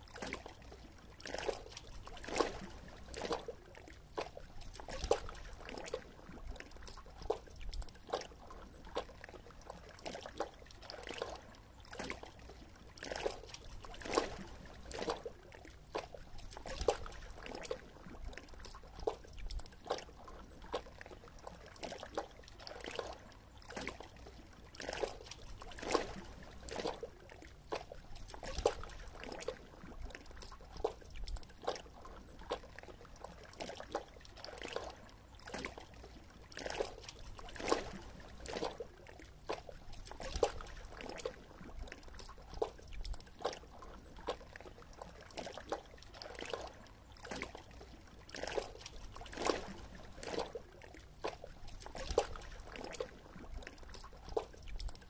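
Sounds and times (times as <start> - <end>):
low wash of water: 0.0 - 55.0.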